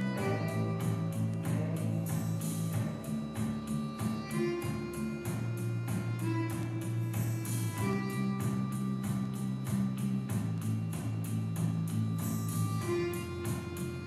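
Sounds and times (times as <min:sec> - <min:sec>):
music with held chords and beat: 0:00.0 - 0:14.0.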